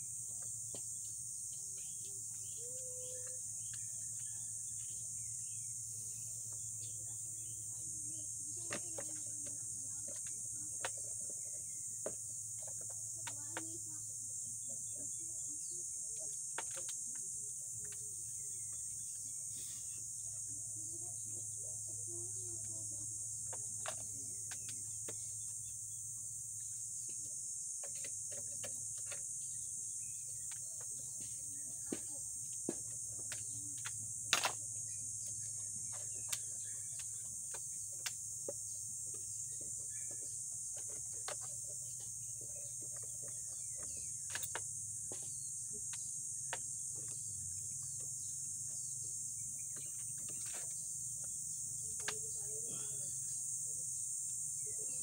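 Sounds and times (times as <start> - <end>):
insects chirring chorus: 0.0 - 55.0.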